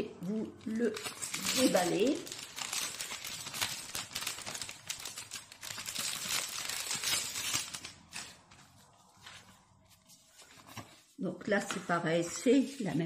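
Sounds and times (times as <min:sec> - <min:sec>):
packaging crinkling and rustling: 0:00.5 - 0:11.1.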